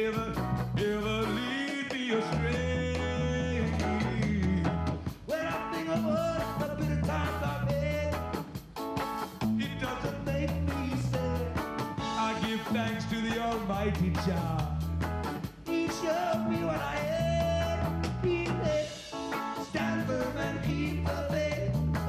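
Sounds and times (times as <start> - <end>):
man singing: 0.0 - 8.6, 9.4 - 14.9, 15.5 - 22.0
reggae band playing: 0.0 - 22.0.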